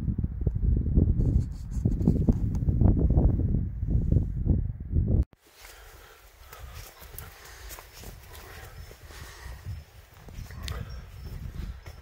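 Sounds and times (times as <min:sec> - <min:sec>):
wind buffeting microphone: 0:00.0 - 0:05.3, 0:06.0 - 0:12.0.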